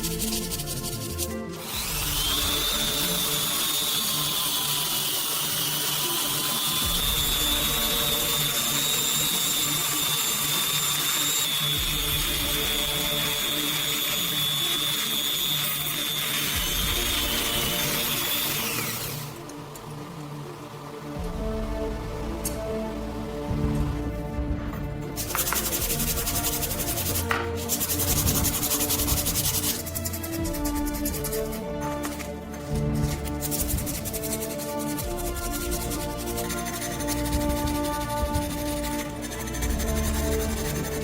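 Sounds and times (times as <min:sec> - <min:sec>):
background music: 0:00.0 - 0:41.0
power tool motor whining: 0:00.0 - 0:41.0.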